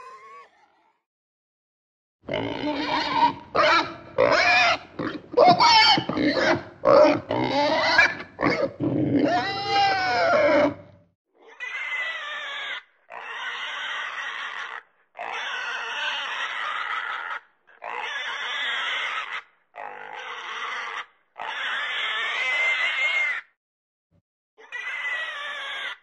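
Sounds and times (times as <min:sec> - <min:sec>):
pigs squealing and grunting: 0:00.0 - 0:01.0, 0:02.3 - 0:23.5, 0:24.6 - 0:26.0.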